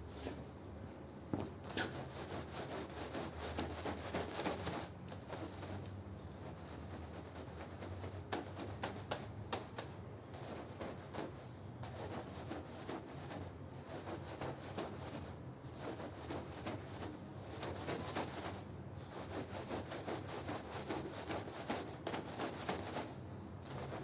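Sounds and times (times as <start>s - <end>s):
scrubbing carpet: 1.4s - 9.8s, 10.4s - 24.0s.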